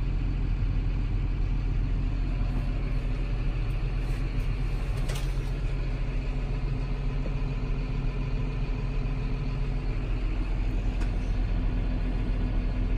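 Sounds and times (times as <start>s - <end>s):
diesel tractor engine idling: 0.0s - 12.9s.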